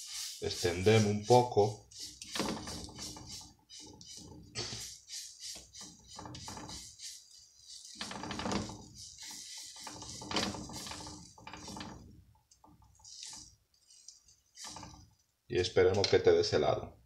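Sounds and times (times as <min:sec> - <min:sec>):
plastic spatula scraping frying pan: 0:00.0 - 0:15.3.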